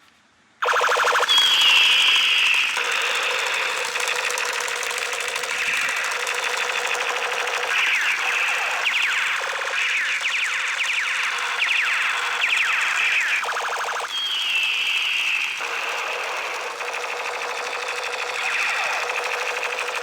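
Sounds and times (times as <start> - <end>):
toy gun electronic zaps: 0.6 - 20.0.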